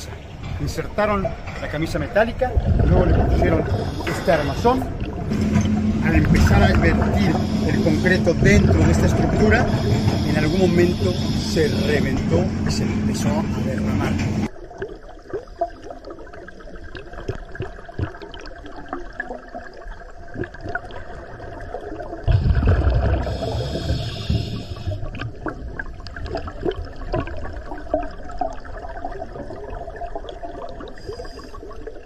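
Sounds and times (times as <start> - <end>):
underwater crackle: 1.6 - 12.4, 14.4 - 32.0
scuba bubbles gushing: 1.8 - 32.0.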